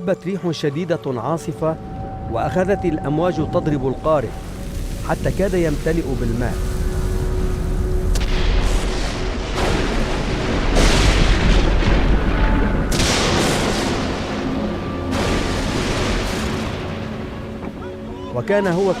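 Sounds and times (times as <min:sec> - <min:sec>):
background music: 0:00.0 - 0:19.0
storm wind: 0:01.6 - 0:18.3
waves crashing: 0:02.3 - 0:19.0.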